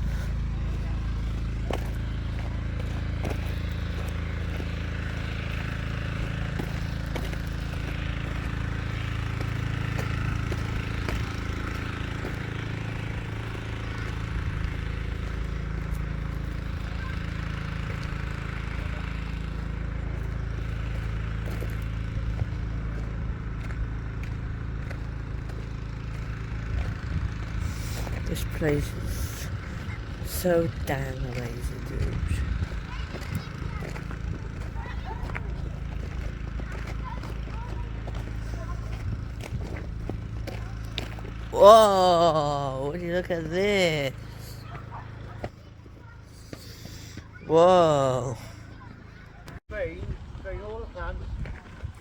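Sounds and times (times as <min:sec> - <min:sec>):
vehicle engine droning: 0:00.0 - 0:51.9.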